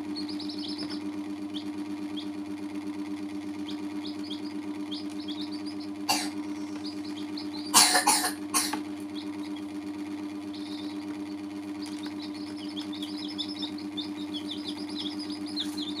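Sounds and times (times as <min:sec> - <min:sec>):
baby chicks peeping: 0:00.0 - 0:16.0
low hum: 0:00.0 - 0:16.0.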